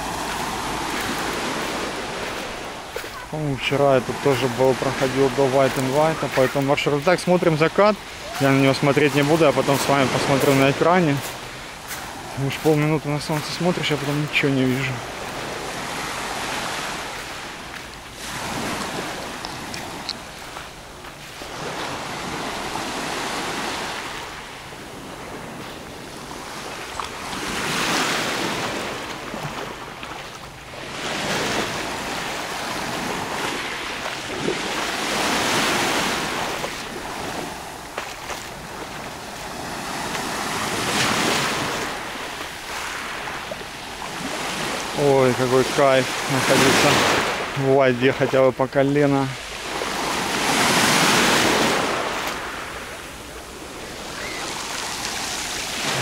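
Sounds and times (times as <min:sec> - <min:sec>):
waves washing onto pebble shore: 0:00.0 - 0:24.4, 0:25.1 - 0:56.0.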